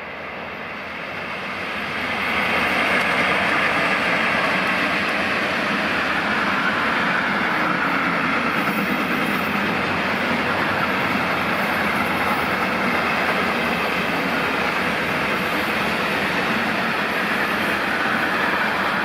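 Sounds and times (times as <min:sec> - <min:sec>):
passenger train passing at speed: 0:00.0 - 0:19.0.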